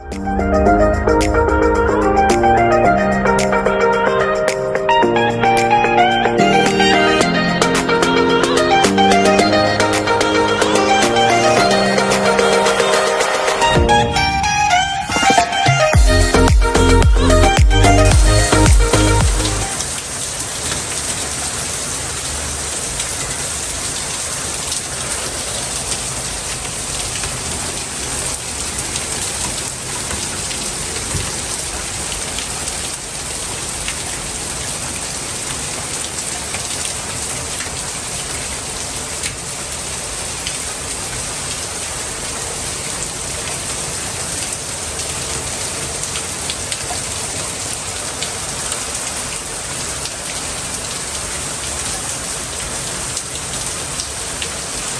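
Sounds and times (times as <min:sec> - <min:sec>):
steady rain falling: 0:00.1 - 0:15.6, 0:16.3 - 0:54.9.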